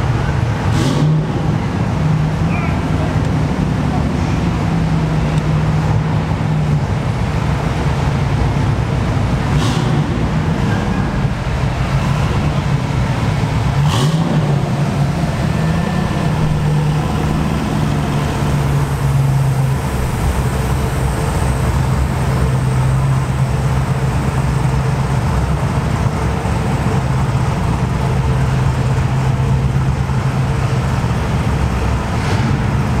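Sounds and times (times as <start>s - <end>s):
car engines idling: 0.0s - 33.0s.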